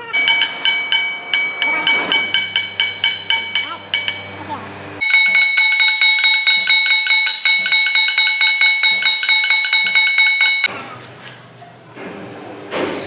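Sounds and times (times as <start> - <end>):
low machine hum: 0.0 - 10.7
metallic striking on steel: 0.0 - 10.7.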